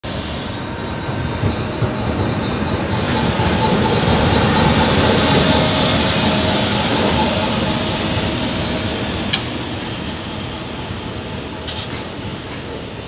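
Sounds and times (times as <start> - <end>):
train wheels on rails: 0.0 - 13.0
locomotive engine: 0.1 - 12.9.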